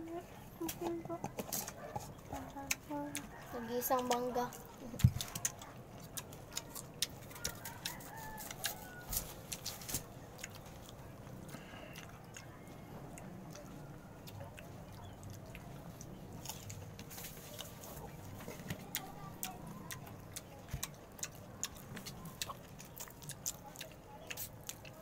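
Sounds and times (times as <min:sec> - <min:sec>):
biting and chewing mango: 0:00.2 - 0:25.0.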